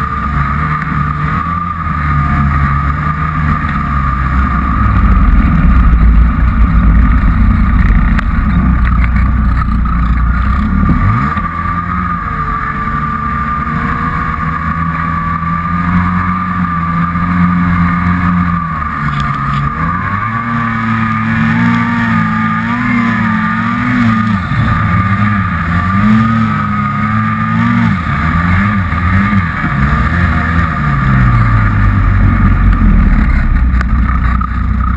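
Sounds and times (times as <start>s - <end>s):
snowmobile engine revving: 0.0s - 34.9s
steady high whine: 0.0s - 34.9s
low wind rumble: 1.8s - 34.9s.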